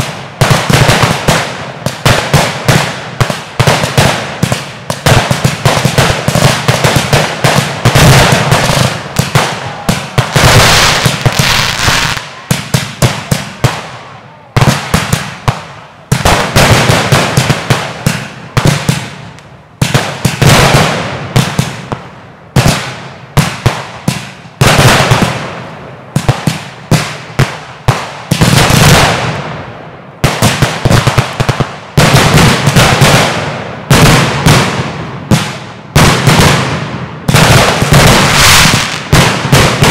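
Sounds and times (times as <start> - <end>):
fireworks crackle: 0.0 - 25.6, 30.3 - 39.9
fireworks bursting with bangs: 0.0 - 39.9.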